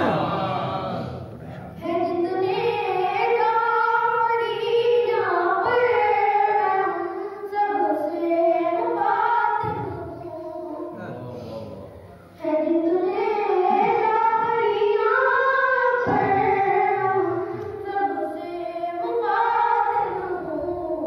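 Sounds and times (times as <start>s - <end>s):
boy singing devotional song: 1.0s - 21.0s.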